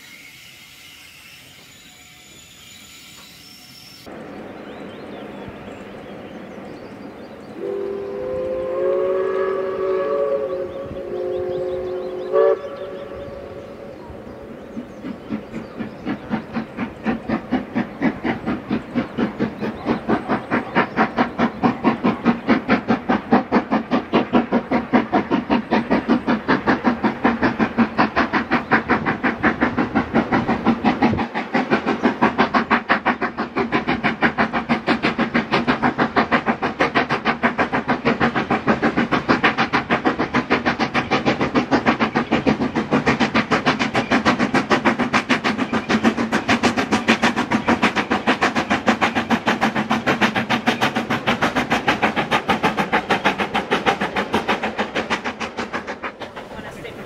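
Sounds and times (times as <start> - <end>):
steam locomotive chuffing: 0.0 - 57.0.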